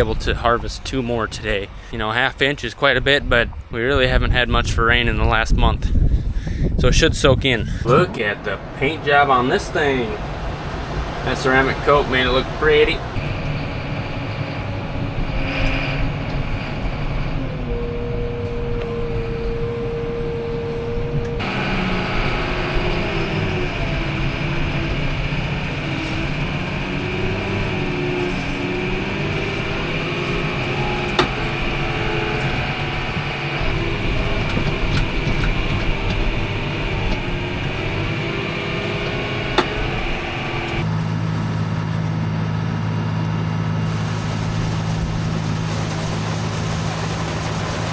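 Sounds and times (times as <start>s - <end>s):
farm vehicle engine running: 0.0s - 8.2s, 9.8s - 47.9s
steady high whine: 0.0s - 47.9s.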